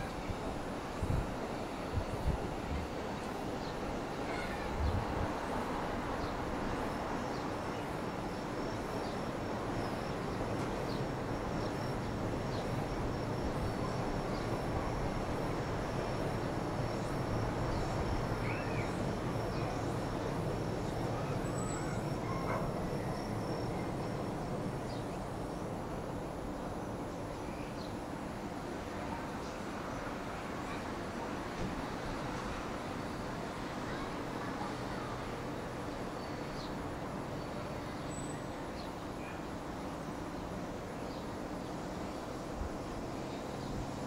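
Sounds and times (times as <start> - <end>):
town ambience rumble: 0.0 - 44.0.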